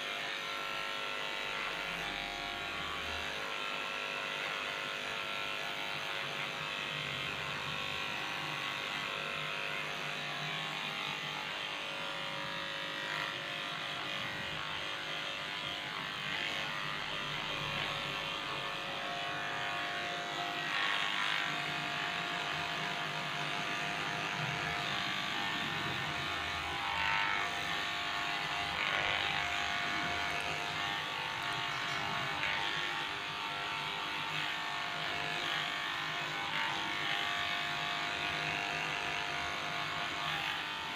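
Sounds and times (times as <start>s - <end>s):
electric clipper buzzing: 0.0s - 40.9s.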